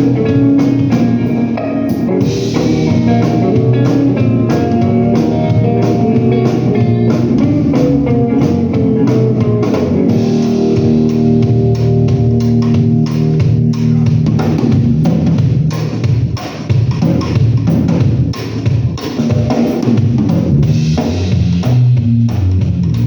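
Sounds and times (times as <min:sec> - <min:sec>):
blues-rock band playing: 0:00.0 - 0:18.4, 0:19.0 - 0:23.0.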